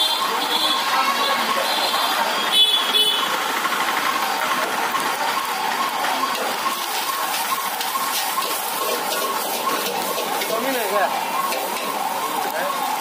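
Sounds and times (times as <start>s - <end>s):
gas wok roaring and sizzling: 0.0s - 13.0s.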